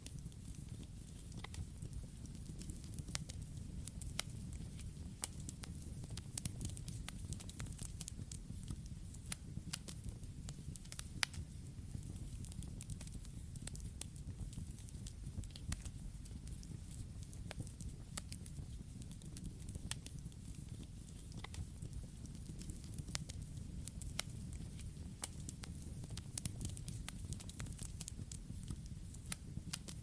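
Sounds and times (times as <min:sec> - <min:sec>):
burning wood crackling and popping: 0:00.0 - 0:30.0
low rumble of flames: 0:00.0 - 0:30.0.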